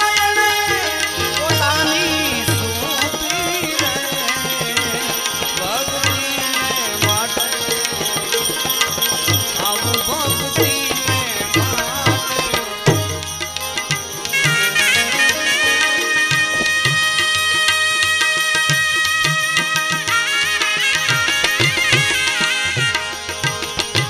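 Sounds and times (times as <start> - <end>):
harmonium melody: 0.0 - 24.0
tabla beat: 0.0 - 24.0.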